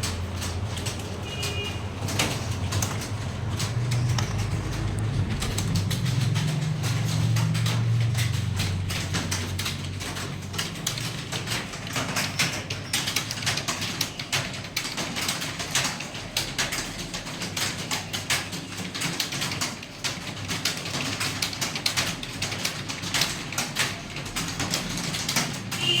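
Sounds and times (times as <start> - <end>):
fast typing on keyboard: 0.0 - 26.0.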